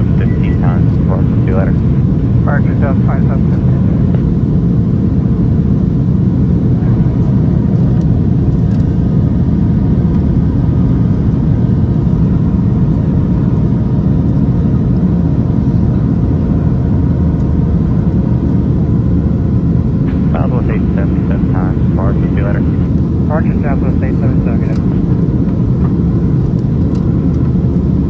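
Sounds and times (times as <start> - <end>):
faint steady tones: 0.0 - 4.8, 6.5 - 28.0
airplane cabin engine rumble: 0.0 - 28.0.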